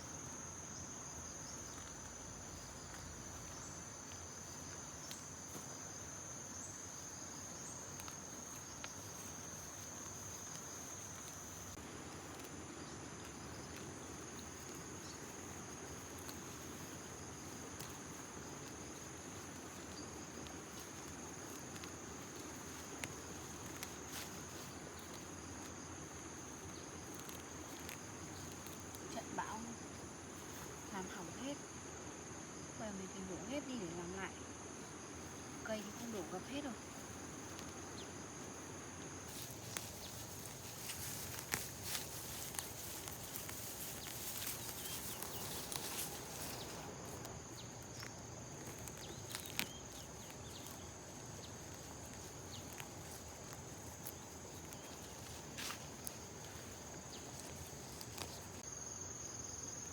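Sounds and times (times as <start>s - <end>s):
insects trilling: 0.0s - 59.9s
outdoor background noise: 0.0s - 59.9s.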